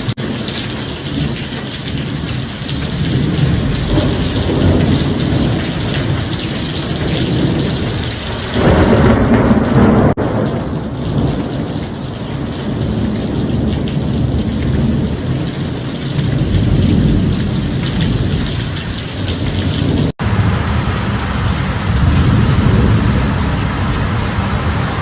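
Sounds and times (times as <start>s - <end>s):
heavy rain: 0.0s - 25.0s
low rolling thunder: 0.0s - 25.0s.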